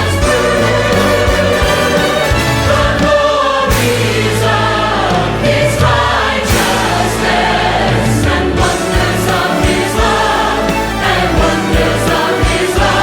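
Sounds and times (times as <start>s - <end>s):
choir singing with orchestra: 0.0s - 13.0s
percussion hits: 0.0s - 13.0s
sustained bass: 0.0s - 13.0s.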